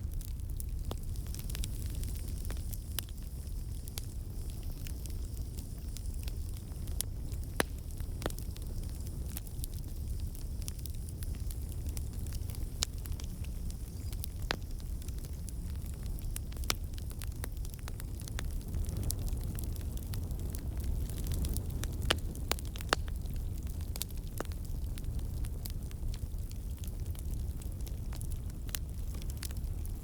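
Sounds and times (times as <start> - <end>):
campfire flames rumbling: 0.0 - 30.0
wood crackling and popping: 0.0 - 30.0.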